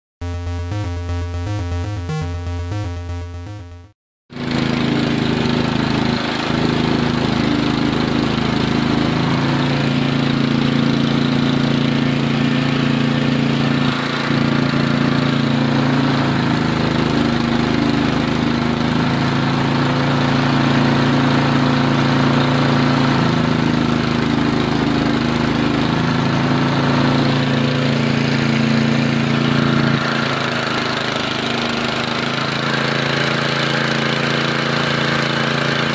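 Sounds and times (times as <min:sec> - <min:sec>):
small engine running steadily: 0:00.2 - 0:35.9.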